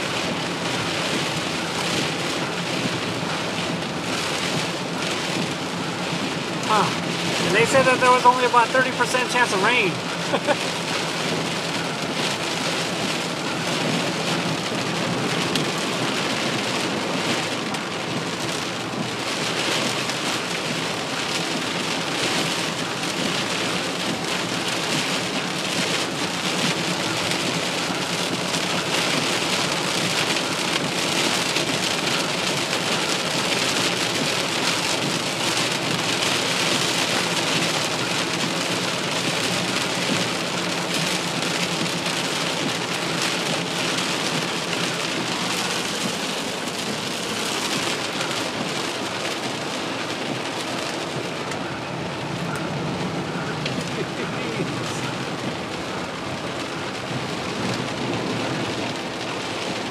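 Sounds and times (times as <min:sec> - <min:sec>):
heavy rain on a car roof: 0:00.0 - 0:59.9.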